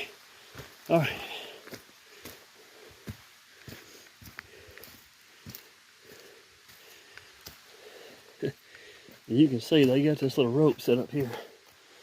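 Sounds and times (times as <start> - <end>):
leaves and brush rustling: 0.0 - 12.0
soft footsteps on trail: 0.0 - 12.0.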